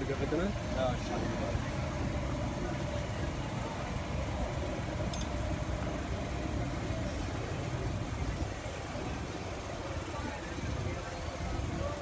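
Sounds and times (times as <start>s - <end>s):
low rumble of street noise: 0.0s - 12.0s.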